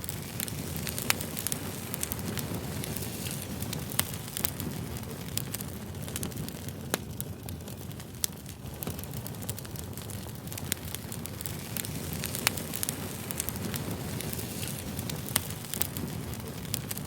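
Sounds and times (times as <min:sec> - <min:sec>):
burning wood crackling and popping: 0:00.0 - 0:17.0
campfire flames rumbling: 0:00.0 - 0:17.0.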